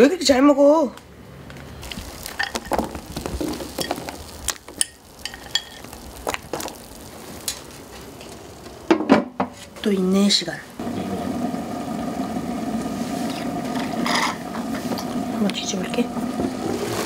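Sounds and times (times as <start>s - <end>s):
broth simmering with a hiss: 1.7s - 17.0s.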